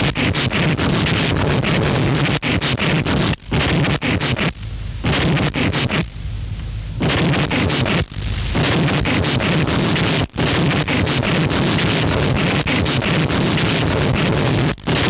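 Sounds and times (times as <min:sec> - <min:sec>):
harsh distorted noise music: 0:00.0 - 0:15.0.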